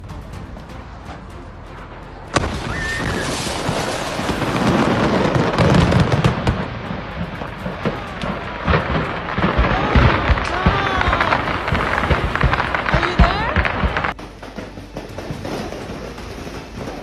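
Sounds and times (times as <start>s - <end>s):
deep rumbling booms: 0.1s - 16.2s
loud bang: 0.6s - 16.2s
crackle of small explosions: 2.4s - 17.0s.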